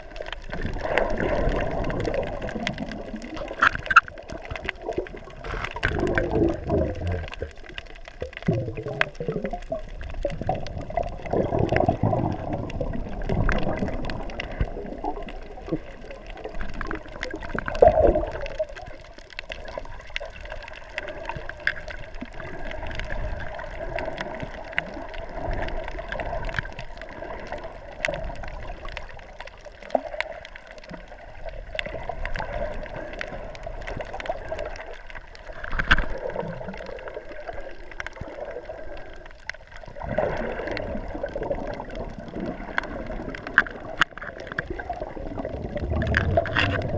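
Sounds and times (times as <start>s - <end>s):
underwater sloshing and gurgling: 0.0s - 46.9s.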